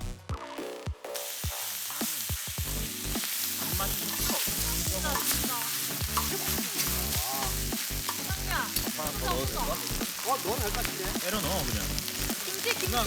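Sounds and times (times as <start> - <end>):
background music: 0.0 - 13.0
food sizzling in a hot pan: 1.1 - 13.0.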